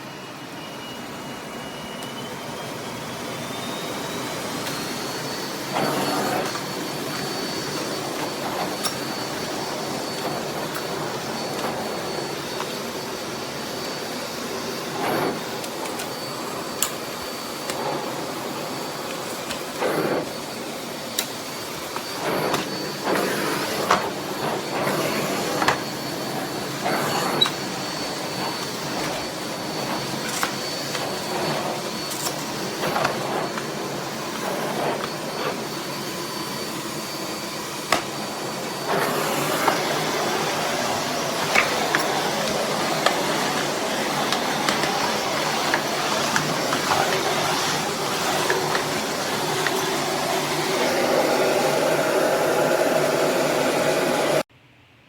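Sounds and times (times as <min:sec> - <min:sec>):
vacuum cleaner running: 0:00.0 - 0:54.5.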